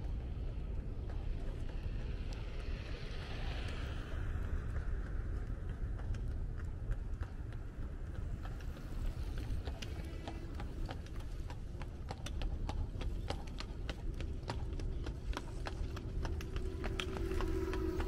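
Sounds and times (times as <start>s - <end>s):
horse hooves clip-clopping on asphalt: 0.0s - 18.0s.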